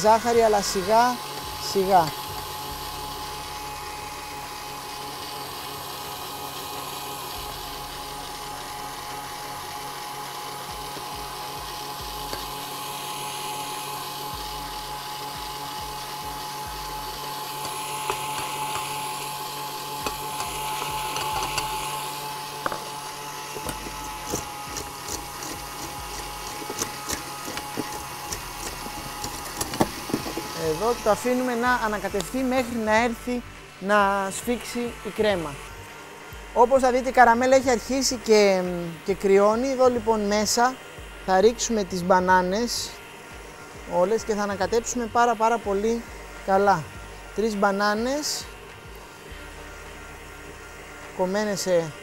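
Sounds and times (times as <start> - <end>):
stand mixer whisking: 0.0 - 52.0.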